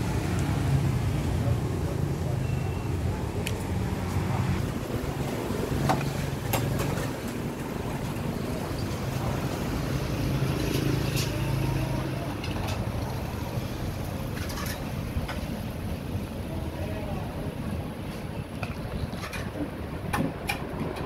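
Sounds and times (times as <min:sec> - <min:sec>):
water boiling in pot: 0:02.9 - 0:21.0.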